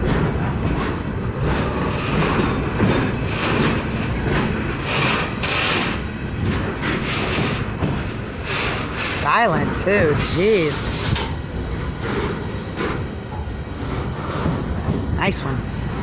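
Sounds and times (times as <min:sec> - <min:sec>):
freight cars clanking: 0:00.0 - 0:16.0
steel wheels rumbling on rails: 0:00.0 - 0:16.0.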